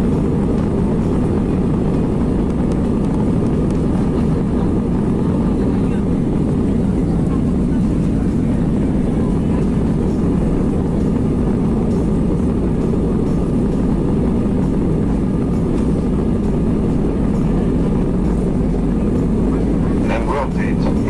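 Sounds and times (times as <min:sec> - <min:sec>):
jet engines at takeoff thrust: 0:00.0 - 0:21.0
runway rumble: 0:00.0 - 0:21.0.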